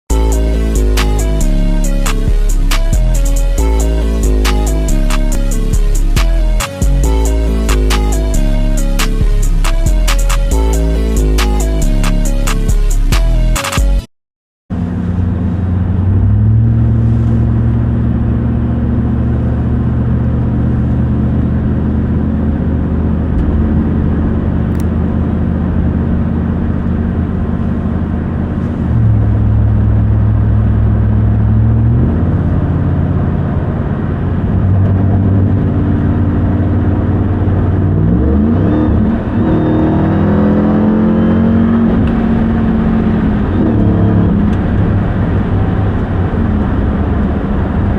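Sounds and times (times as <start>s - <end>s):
truck engine running: 0.1s - 14.1s, 14.7s - 47.9s.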